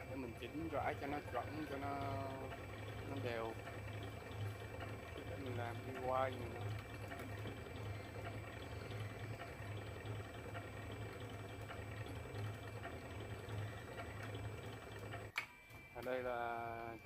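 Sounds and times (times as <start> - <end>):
coil-winding machine motor humming: 0.0 - 15.4, 16.0 - 17.0.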